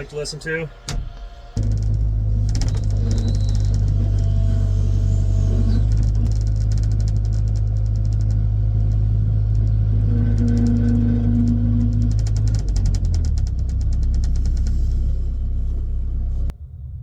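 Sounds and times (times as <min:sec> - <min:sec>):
diesel engine rumbling: 0:00.0 - 0:16.5
higher hum: 0:00.0 - 0:16.5.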